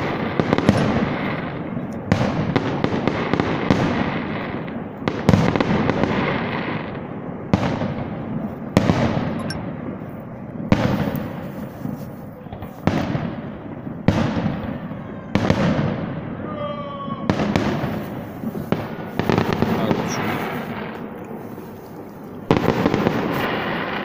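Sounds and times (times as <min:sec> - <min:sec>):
fireworks bursting with echo: 0:00.0 - 0:24.0.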